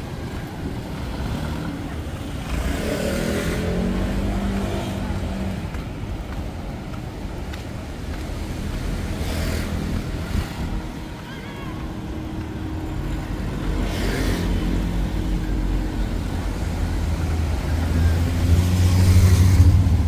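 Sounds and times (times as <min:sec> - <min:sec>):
motor engine passing: 0:00.4 - 0:05.8, 0:08.2 - 0:20.0.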